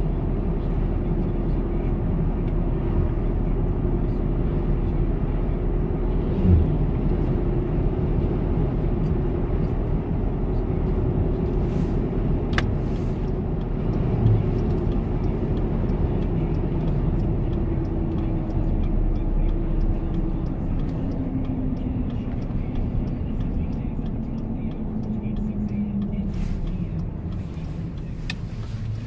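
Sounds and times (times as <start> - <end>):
engine and road rumble in cab: 0.0 - 29.0.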